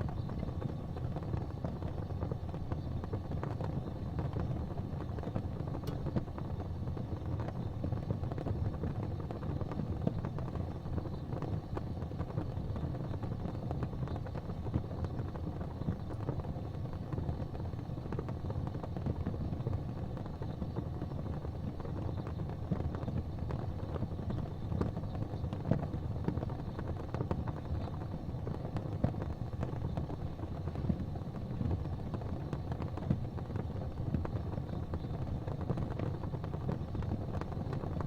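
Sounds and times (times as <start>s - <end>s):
gas fireplace flames rumbling: 0.0s - 38.0s.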